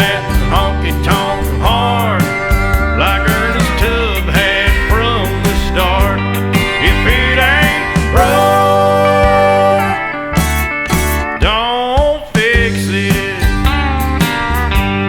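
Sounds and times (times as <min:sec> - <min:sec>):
country song instrumental: 0:00.0 - 0:15.0.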